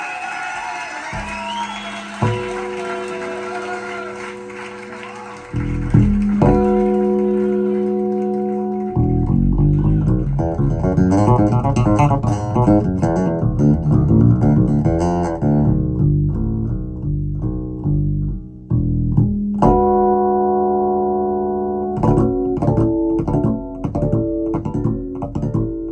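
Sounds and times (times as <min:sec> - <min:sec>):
guitar and bass music on loudspeakers: 0:02.2 - 0:25.9.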